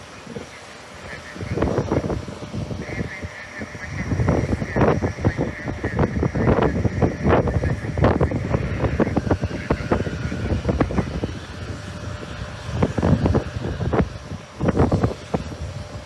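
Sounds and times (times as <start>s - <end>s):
faint engine whine: 0.0s - 16.0s
jet engines roaring: 0.0s - 16.0s
wind buffeting microphone: 0.0s - 16.0s.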